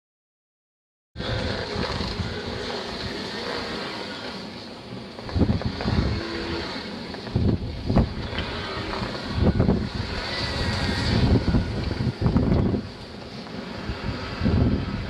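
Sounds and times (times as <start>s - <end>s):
wind buffeting microphone: 1.2s - 3.9s, 5.1s - 15.0s
wheelchair drive motors: 1.2s - 15.0s.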